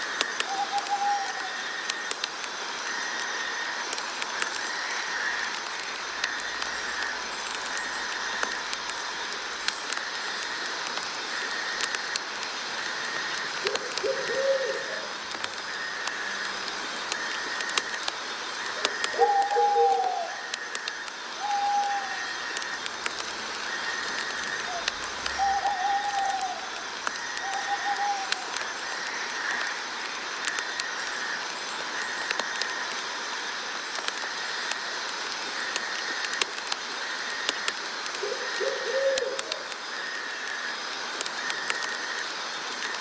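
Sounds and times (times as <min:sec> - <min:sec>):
pulsing chirring insect chorus: 0:00.0 - 0:43.0.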